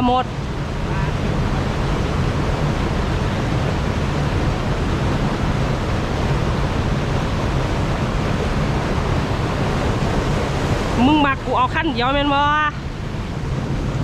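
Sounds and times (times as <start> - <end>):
water rushing over a weir: 0.0 - 14.0.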